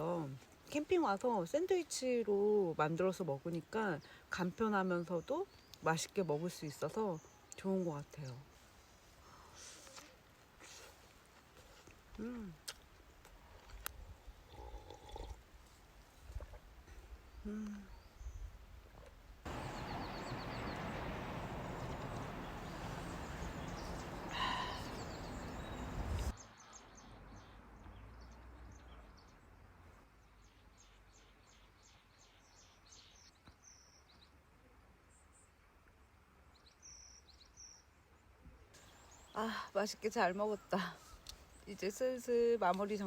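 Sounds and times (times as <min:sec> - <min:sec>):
small birds chirping: 0:00.0 - 0:12.8, 0:16.0 - 0:34.4, 0:36.5 - 0:43.0.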